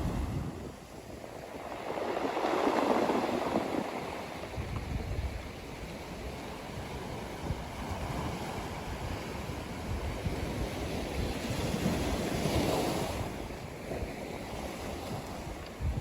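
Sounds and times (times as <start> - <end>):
ocean surf on beach: 0.0 - 16.0
wind rumbling on microphone: 0.0 - 16.0.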